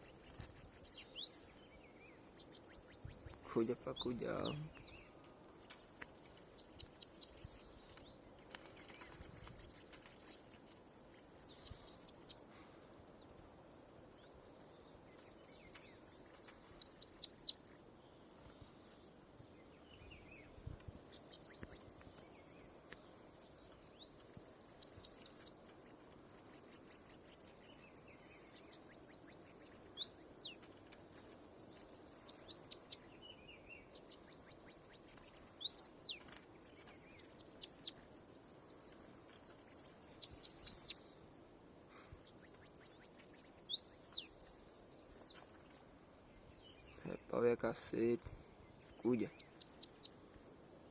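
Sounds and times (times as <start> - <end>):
bird singing buzzy trills: 0.0 - 12.5, 13.9 - 17.8, 18.8 - 50.9.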